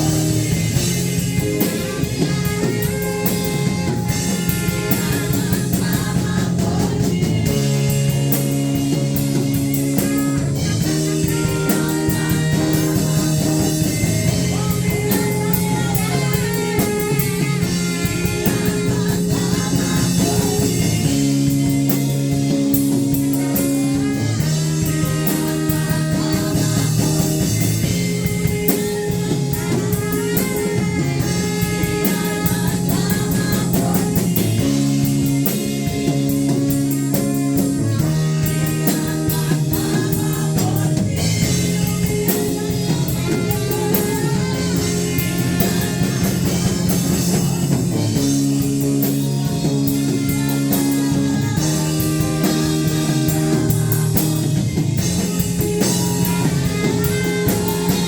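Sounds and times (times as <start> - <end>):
drum kit beat: 0.0 - 58.0
guitar chords: 0.0 - 58.0.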